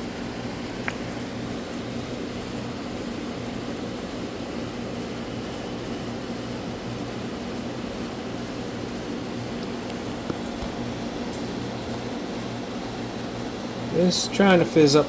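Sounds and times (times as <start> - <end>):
mechanical hum with low drone: 0.0 - 15.0.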